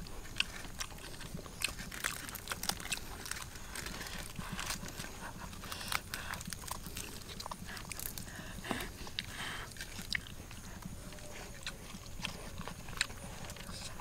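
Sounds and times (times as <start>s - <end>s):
chewing and mouth smacks: 0.0s - 14.0s.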